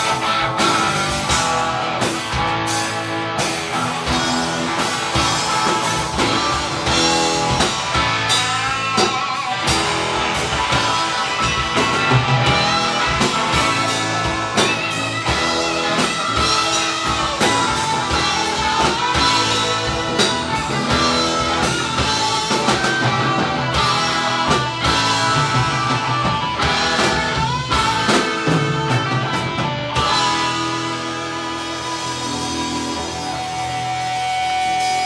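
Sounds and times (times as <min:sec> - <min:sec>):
drum kit hitting steadily: 0:00.0 - 0:35.0
electric bass: 0:00.0 - 0:35.0
electric guitars: 0:00.0 - 0:35.0.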